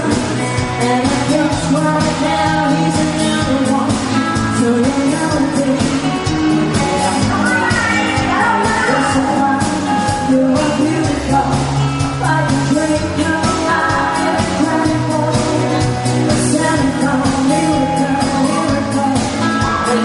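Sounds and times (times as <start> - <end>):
bass line: 0.0 - 20.0
person singing: 0.0 - 20.0
steady drum beat: 0.0 - 20.0.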